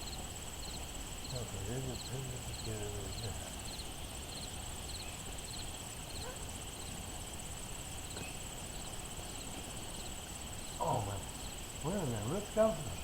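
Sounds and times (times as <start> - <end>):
insect chirps: 0.0 - 13.0
insect pulsing trill: 0.0 - 13.0.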